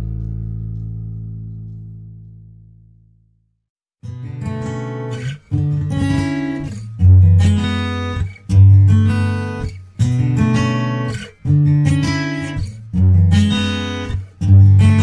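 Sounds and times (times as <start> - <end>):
acoustic guitar strumming chords: 0.0 - 2.2, 4.0 - 15.0.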